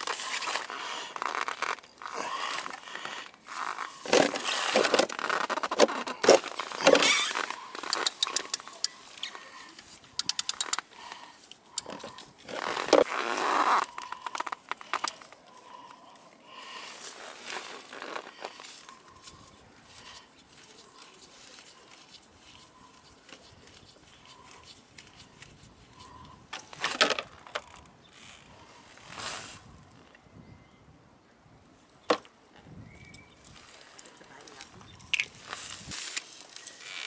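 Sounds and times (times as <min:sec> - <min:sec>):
scraping and rustling handling noise: 0:00.0 - 0:29.6, 0:33.4 - 0:37.0.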